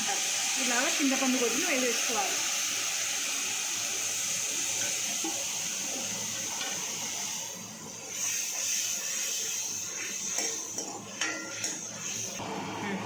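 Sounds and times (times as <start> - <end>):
pulp sizzling in hot oil: 0.0 - 12.4.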